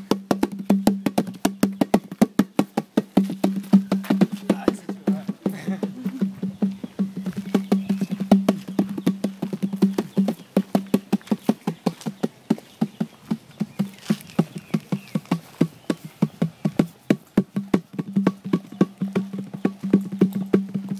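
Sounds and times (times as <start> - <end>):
hand drum beaten fast: 0.0 - 20.9.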